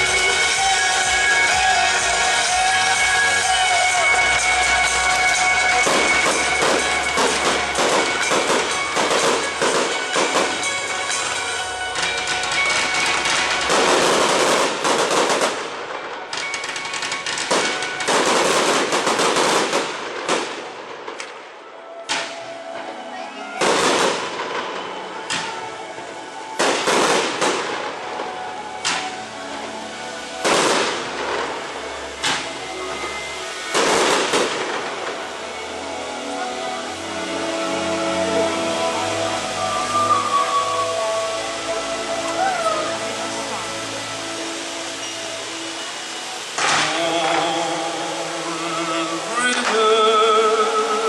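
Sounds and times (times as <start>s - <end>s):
fireworks crackling and popping: 0.0s - 22.9s, 23.6s - 51.0s
music soundtrack: 0.0s - 51.0s.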